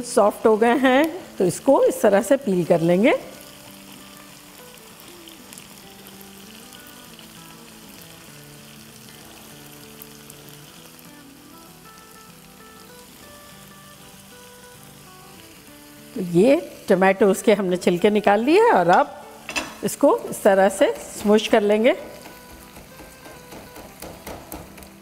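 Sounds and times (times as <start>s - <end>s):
meat sizzling in a frying pan: 0.0s - 25.0s
soft background music: 0.0s - 25.0s.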